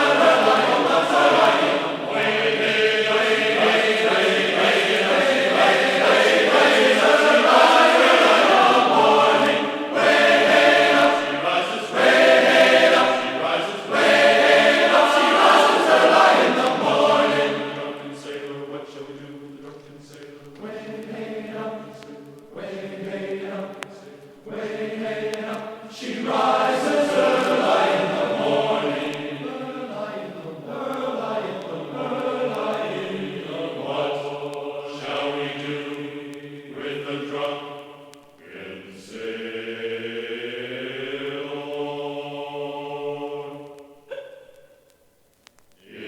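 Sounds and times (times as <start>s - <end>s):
chant-like vocal tones: 0.0s - 44.9s, 45.7s - 46.0s.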